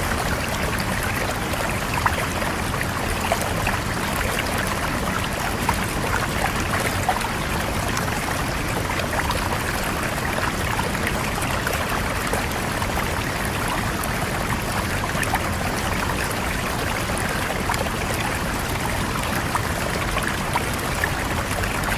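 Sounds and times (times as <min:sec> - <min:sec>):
river water flowing over rocks: 0:00.0 - 0:21.9.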